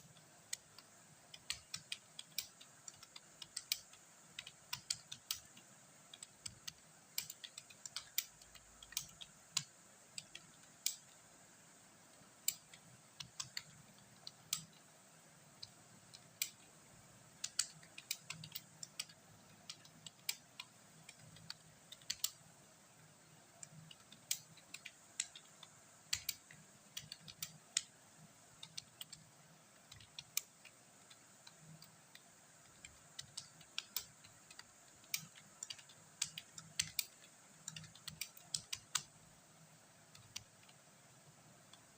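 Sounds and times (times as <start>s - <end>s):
computer keyboard typing: 0.0s - 11.2s, 12.2s - 14.9s, 17.3s - 22.5s, 23.5s - 39.2s, 40.1s - 40.8s.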